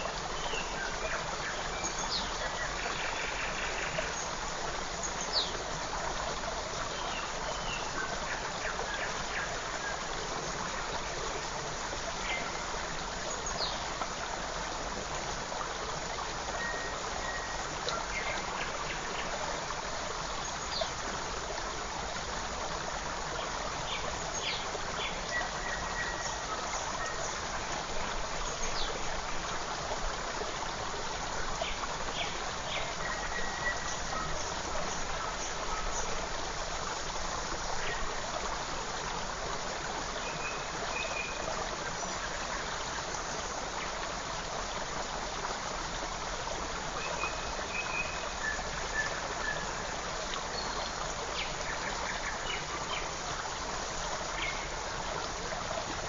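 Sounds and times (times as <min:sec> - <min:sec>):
creek running: 0:00.0 - 0:56.0.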